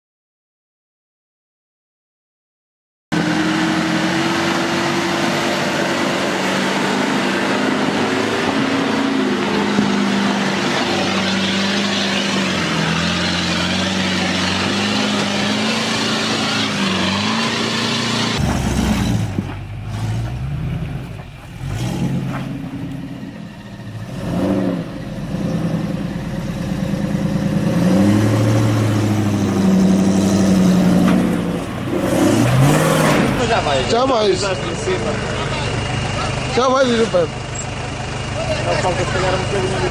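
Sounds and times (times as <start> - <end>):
engine revving in surges: 3.1 - 39.9
engines working under load: 3.1 - 39.9.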